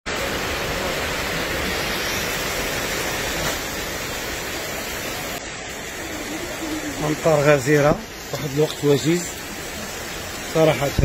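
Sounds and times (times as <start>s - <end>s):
heavy rain and rushing floodwater: 0.1s - 11.0s.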